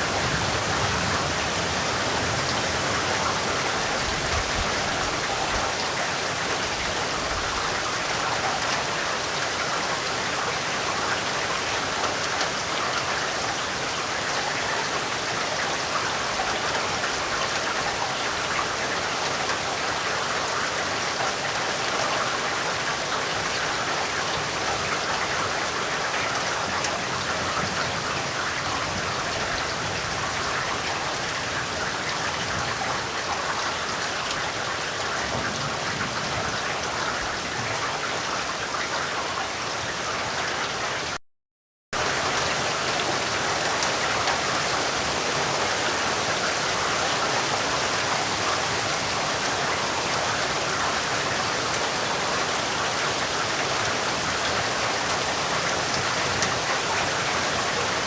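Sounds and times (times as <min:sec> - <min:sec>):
steady rain falling: 0:00.0 - 0:41.2, 0:42.0 - 0:58.0.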